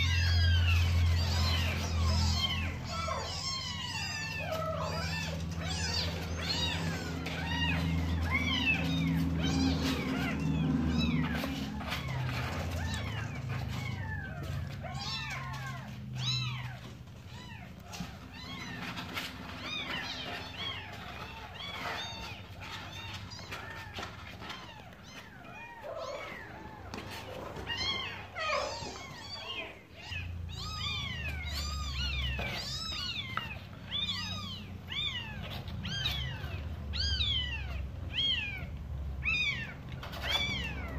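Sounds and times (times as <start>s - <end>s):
cat meowing: 0.0s - 40.9s
kittens mewing: 0.0s - 40.9s.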